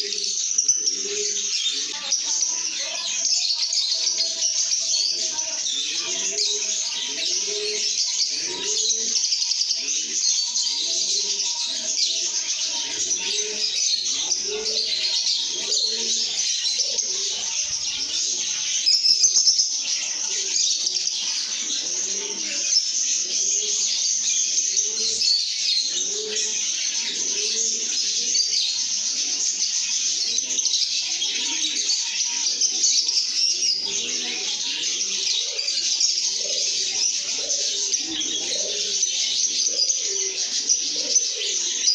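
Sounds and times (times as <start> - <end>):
lovebirds chattering and chirping: 0.0 - 41.9.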